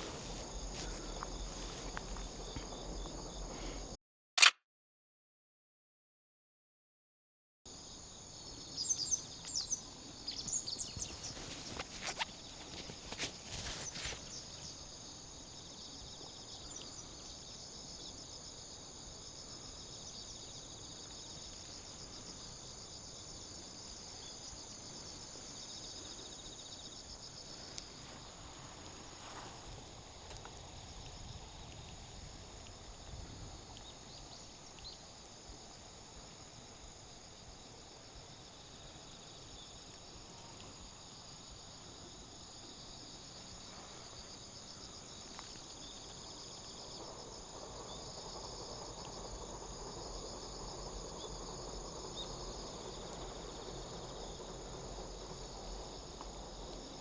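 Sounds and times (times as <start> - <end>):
insects chirring: 0.0 - 4.0, 7.7 - 57.0.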